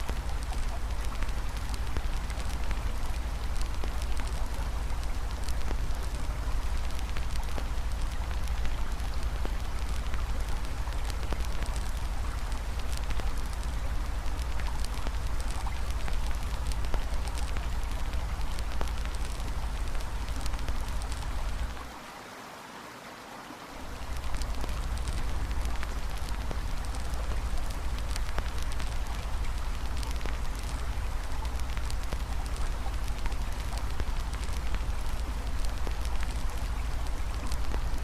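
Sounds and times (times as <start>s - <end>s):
campfire crackling: 0.0s - 21.9s, 23.9s - 38.0s
flowing river water: 0.0s - 38.0s.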